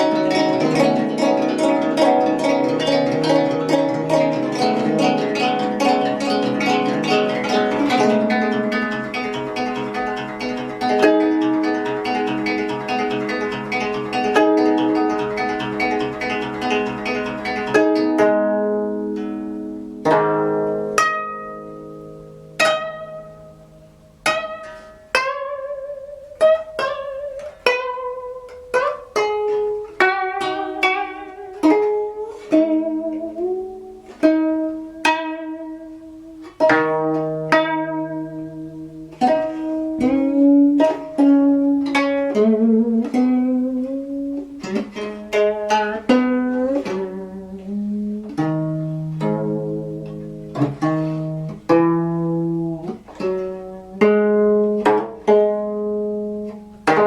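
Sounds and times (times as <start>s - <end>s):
plucked zither notes: 0.0s - 57.0s.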